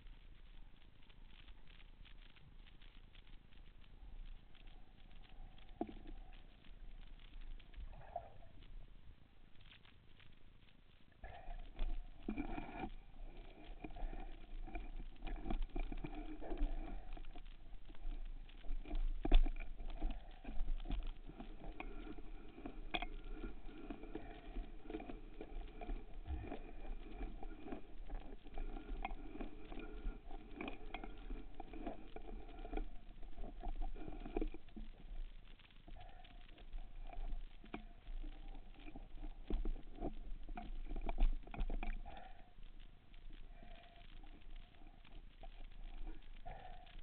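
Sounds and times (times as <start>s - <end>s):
crackling and rubbing from handling: 0.0s - 47.0s
low underwater hum: 0.0s - 47.0s.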